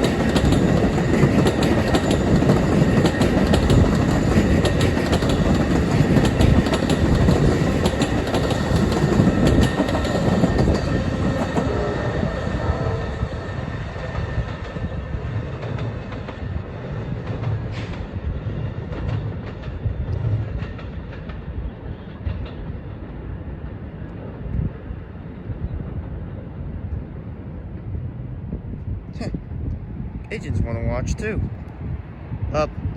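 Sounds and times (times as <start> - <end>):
train running on rails: 0.0 - 32.9.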